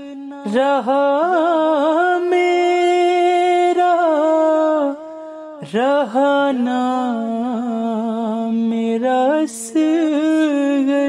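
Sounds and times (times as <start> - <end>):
man chanting a lament: 0.0 - 11.0.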